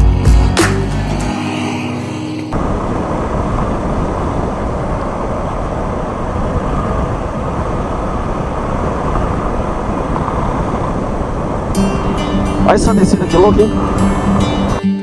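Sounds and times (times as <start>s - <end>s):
motorcycle engine running: 2.6s - 14.8s
wind on microphone: 2.6s - 14.8s.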